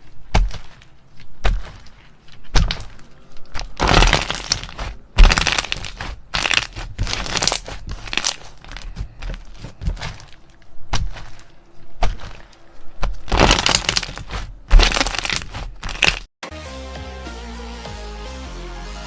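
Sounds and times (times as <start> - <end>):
slime crackling and popping: 0.3 - 11.4, 12.0 - 16.3.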